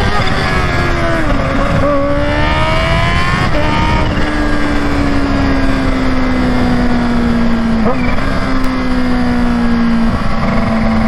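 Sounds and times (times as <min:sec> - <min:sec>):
motorcycle engine revving: 0:00.0 - 0:11.0
wind rush: 0:00.0 - 0:11.0.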